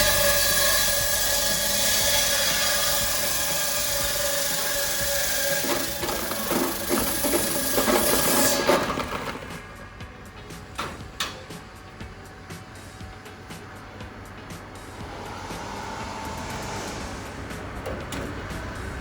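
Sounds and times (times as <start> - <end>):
ice cutting machine whining: 0.0 - 19.0.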